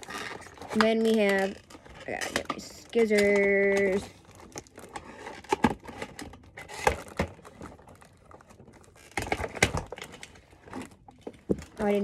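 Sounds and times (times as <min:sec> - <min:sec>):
plastic packaging clicks and knocks: 0:00.0 - 0:12.0.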